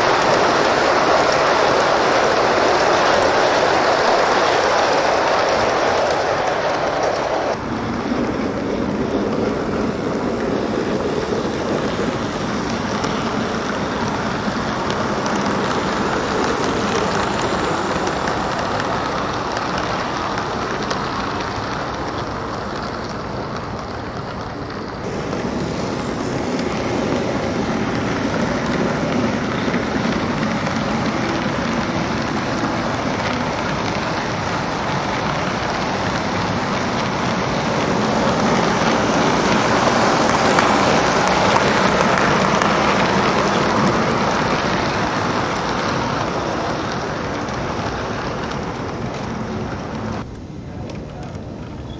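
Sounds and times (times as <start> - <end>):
model trains rolling on track: 0.0 - 51.9.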